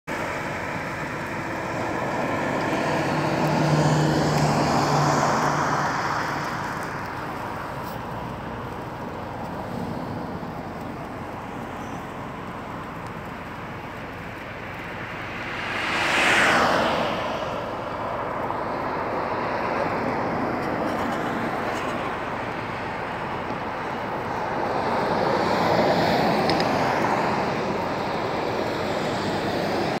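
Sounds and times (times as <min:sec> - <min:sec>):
vehicles passing: 0:00.1 - 0:30.0.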